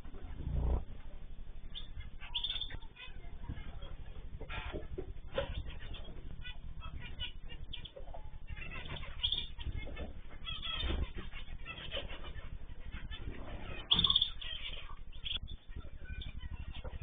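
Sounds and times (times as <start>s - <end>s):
small birds chirping: 0.0s - 17.0s
wings fluttering: 0.0s - 17.0s.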